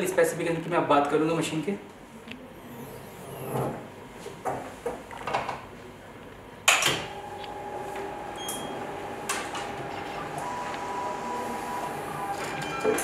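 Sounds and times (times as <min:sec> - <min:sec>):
faint steady machine hum: 0:00.0 - 0:13.0.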